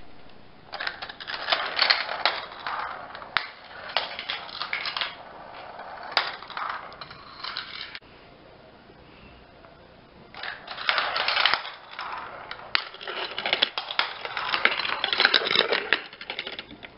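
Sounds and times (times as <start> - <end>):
marbles clicking on track: 0.7 - 8.0, 10.4 - 16.9
marbles rolling on plastic track: 0.7 - 8.0, 10.3 - 16.9.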